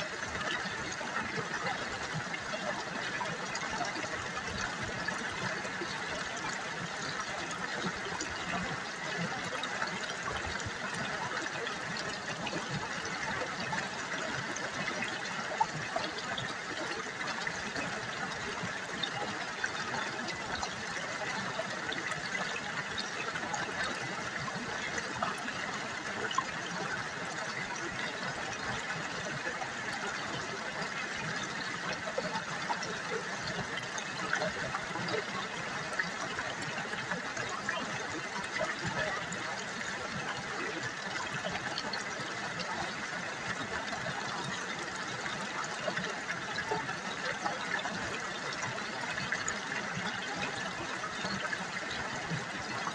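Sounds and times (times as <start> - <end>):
river water babbling: 0.0 - 52.9.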